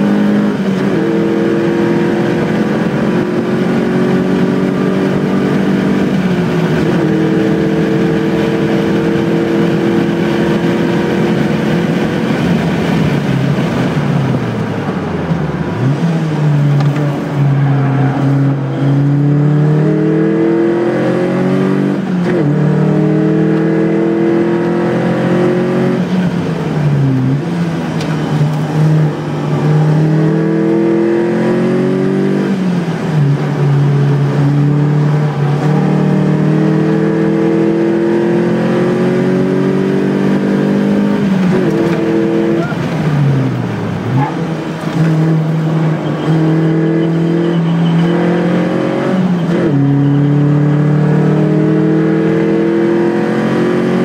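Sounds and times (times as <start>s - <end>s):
race car engine revving through gears: 0.0s - 54.0s.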